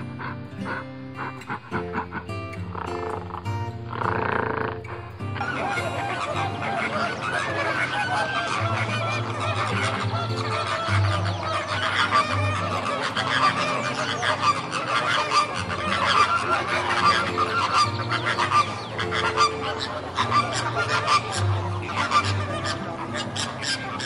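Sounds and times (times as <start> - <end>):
flamingos honking and chattering: 0.0 - 24.0.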